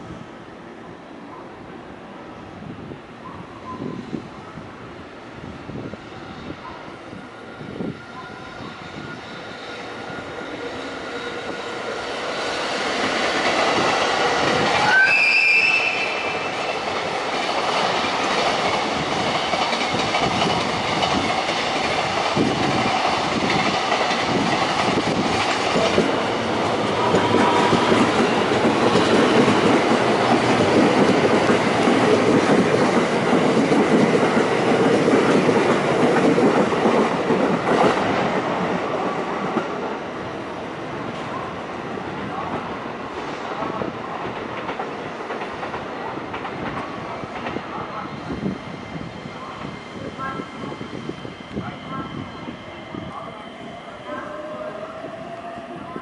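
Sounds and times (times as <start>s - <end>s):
passenger train arriving: 0.0s - 56.0s.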